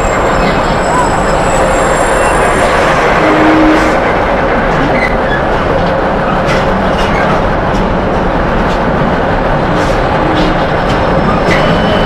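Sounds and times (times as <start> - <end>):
steel wheels rumbling on rail: 0.0 - 12.0.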